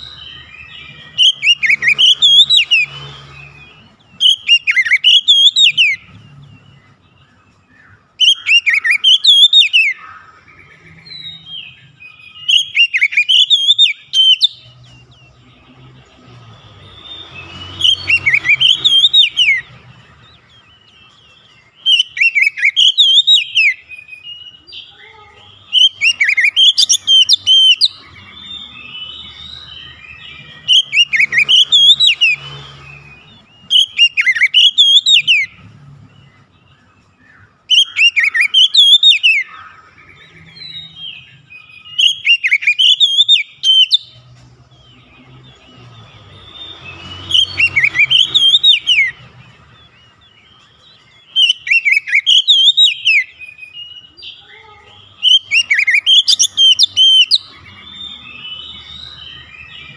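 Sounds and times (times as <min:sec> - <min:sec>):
bird singing whistled phrases: 0:00.0 - 0:15.8, 0:16.7 - 0:20.0, 0:20.7 - 0:35.6, 0:36.3 - 0:44.2, 0:44.9 - 0:59.9
soft bird twittering: 0:00.0 - 0:59.9.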